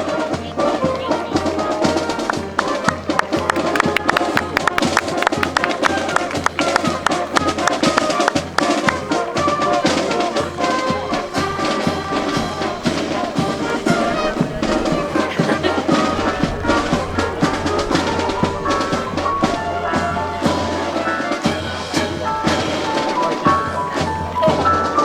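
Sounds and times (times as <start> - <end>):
brass band playing: 0.0 - 25.0
drums beating: 0.0 - 25.0.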